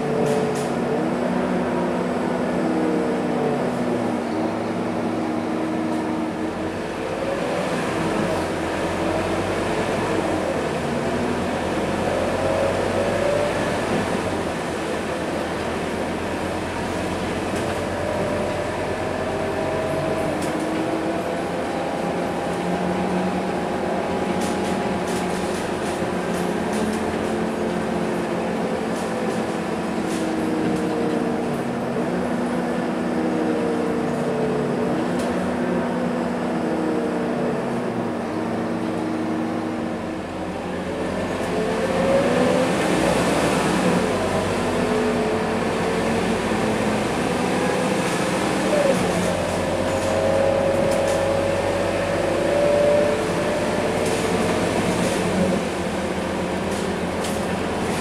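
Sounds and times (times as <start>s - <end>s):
bus engine whining: 0.0s - 58.0s.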